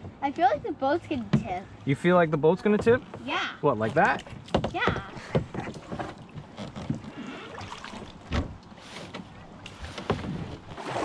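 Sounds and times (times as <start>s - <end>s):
water splashing around kayak: 1.2s - 11.0s.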